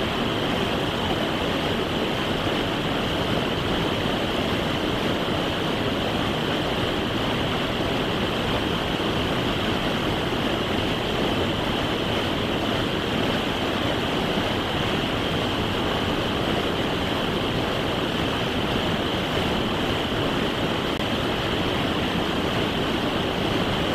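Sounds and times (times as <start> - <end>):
creek rushing over boulders: 0.0 - 23.9.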